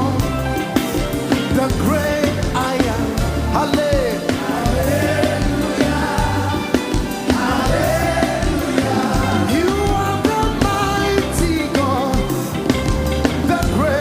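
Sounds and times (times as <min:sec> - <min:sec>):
band with bass and drums: 0:00.0 - 0:14.0
voices singing gospel melody: 0:00.0 - 0:14.0.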